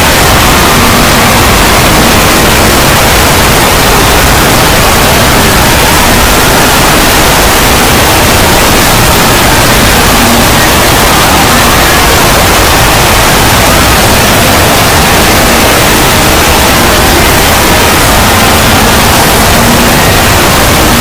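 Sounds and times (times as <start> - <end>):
loud distorted noise: 0.0 - 21.0.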